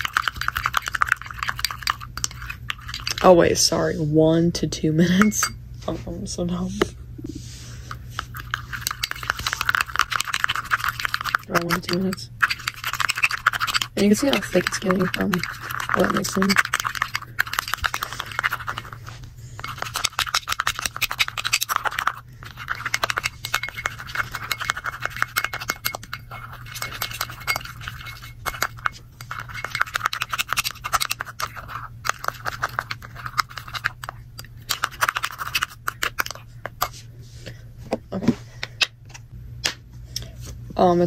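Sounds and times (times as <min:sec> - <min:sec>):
spoon stirring slime in bowl: 0:00.0 - 0:04.0, 0:04.9 - 0:37.6.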